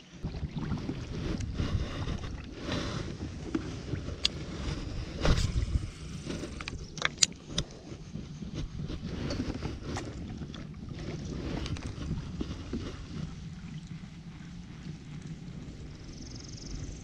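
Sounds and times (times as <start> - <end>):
low rumble of water and hull: 0.0 - 17.0.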